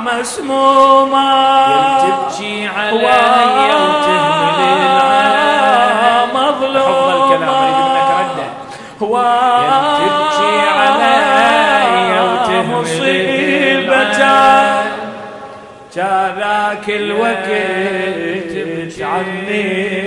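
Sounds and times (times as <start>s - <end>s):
man chanting a lament: 0.0s - 15.1s, 15.9s - 20.0s.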